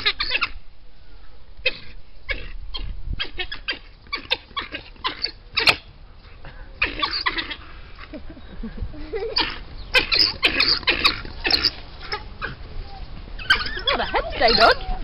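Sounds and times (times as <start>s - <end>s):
wild dogs twittering calls: 0.0s - 0.6s, 1.6s - 15.0s.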